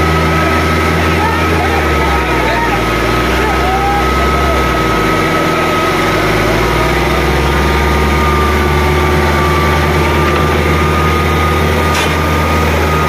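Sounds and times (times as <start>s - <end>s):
diesel tractor engine under load: 0.0s - 13.0s.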